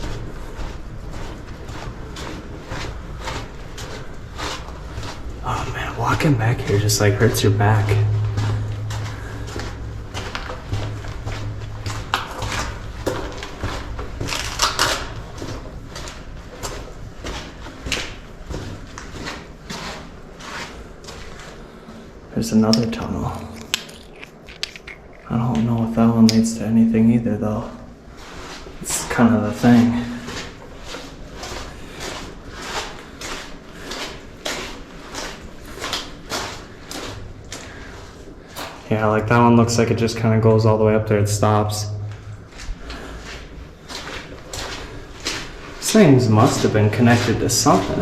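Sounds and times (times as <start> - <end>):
footsteps crunching in a tunnel: 0.0 - 48.0.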